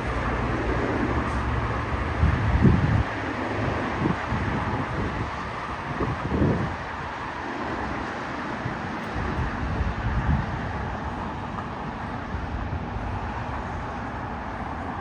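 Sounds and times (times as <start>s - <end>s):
steady outdoor roar: 0.0s - 15.0s
wind buffeting microphone: 0.0s - 15.0s.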